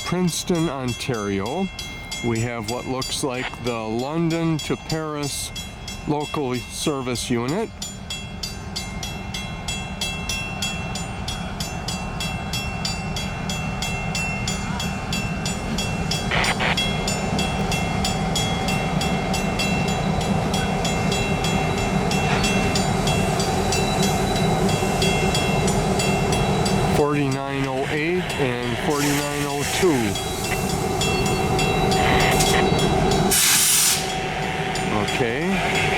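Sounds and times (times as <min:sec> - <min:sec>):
diesel locomotive engines humming: 0:00.0 - 0:35.9.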